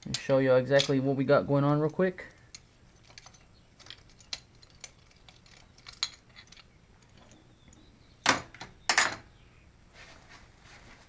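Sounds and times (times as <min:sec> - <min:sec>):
metal tools and parts clinking: 0:00.0 - 0:09.3.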